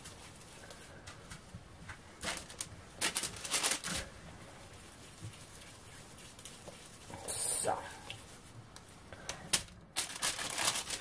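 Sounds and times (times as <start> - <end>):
hands patting and squishing dough: 0.0 - 11.0.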